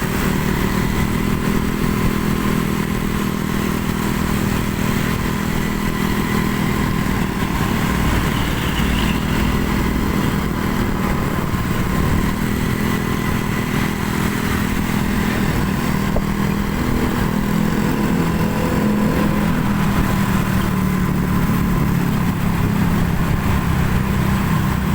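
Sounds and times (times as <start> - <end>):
vehicle engines droning: 0.0 - 24.9.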